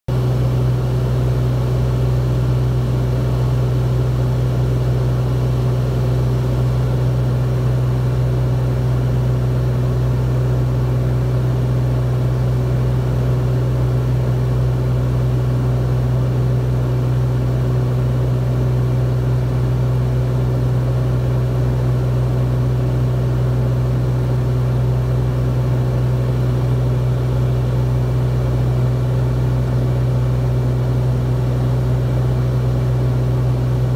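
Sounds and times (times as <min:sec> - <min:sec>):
aircraft engine and propeller droning: 0:00.1 - 0:33.9.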